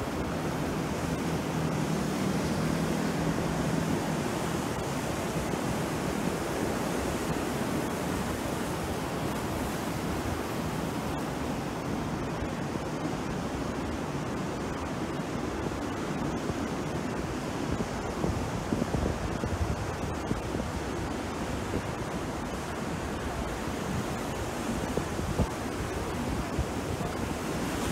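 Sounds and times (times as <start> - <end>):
small waves breaking on shore: 0.0 - 27.9.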